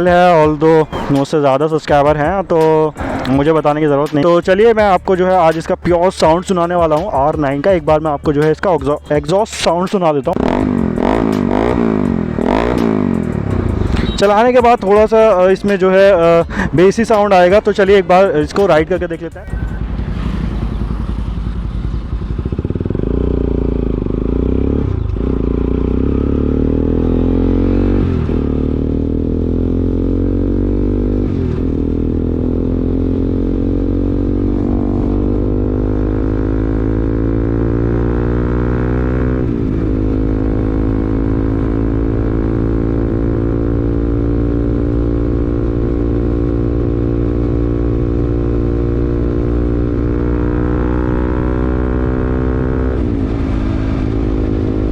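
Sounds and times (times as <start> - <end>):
motorcycle engine accelerating: 0.0 - 9.5, 10.3 - 54.9.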